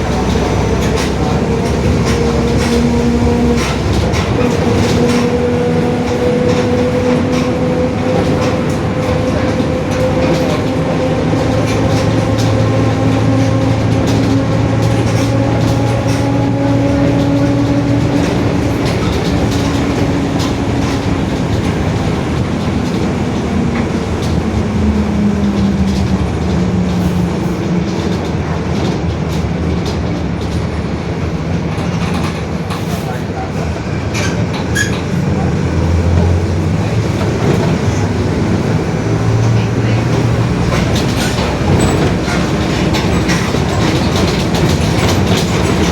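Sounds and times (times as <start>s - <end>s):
bus gear whine: 0.0s - 30.8s, 31.4s - 45.9s
road rumble: 0.0s - 45.9s.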